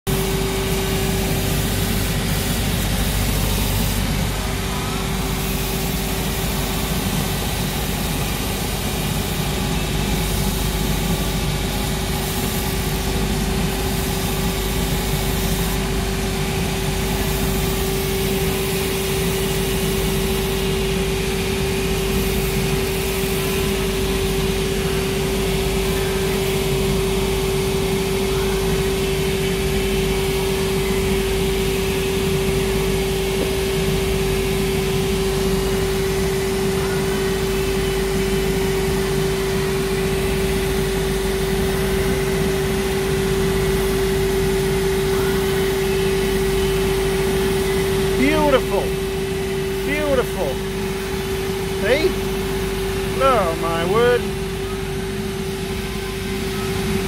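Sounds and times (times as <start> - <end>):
finishing machine humming: 0.1 - 57.0.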